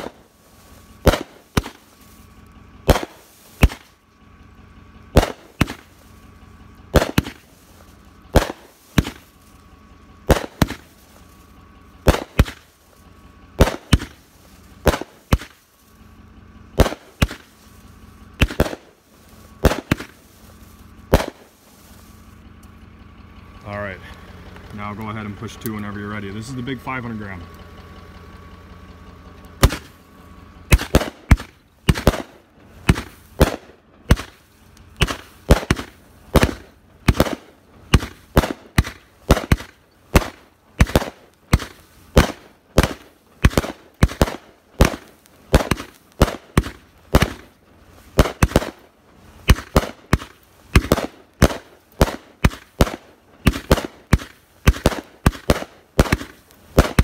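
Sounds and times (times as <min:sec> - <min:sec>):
firework aerial bursts: 0:00.0 - 0:22.9, 0:29.5 - 0:57.0.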